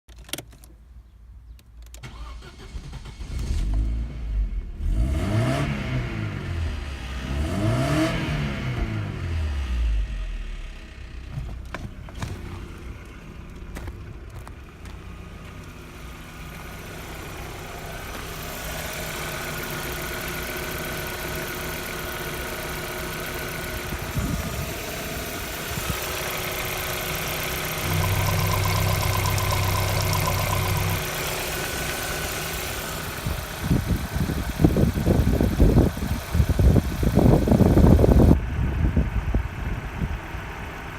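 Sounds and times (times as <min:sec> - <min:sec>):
car engine idling and revving: 0:02.1 - 0:40.9.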